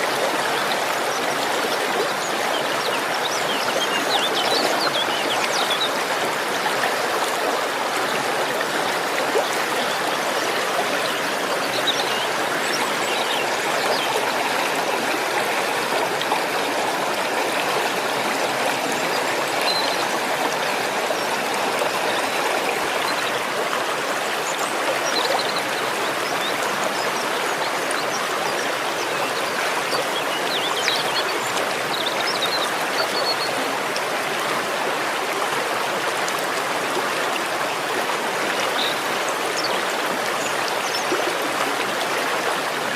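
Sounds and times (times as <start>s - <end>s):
waterfall rushing and splashing: 0.0s - 42.9s.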